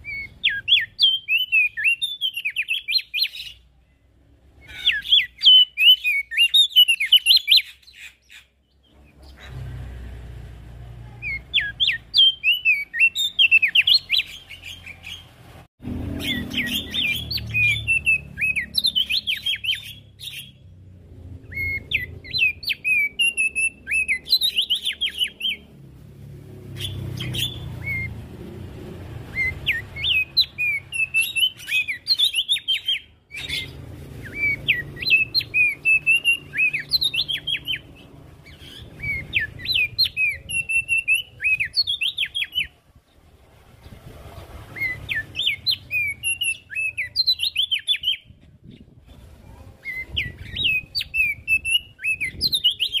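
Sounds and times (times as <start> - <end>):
songbird chirping and whistling: 0.0 - 9.5, 11.2 - 15.3, 16.1 - 25.8, 26.7 - 28.3, 29.2 - 42.8, 43.8 - 49.1, 49.7 - 53.0.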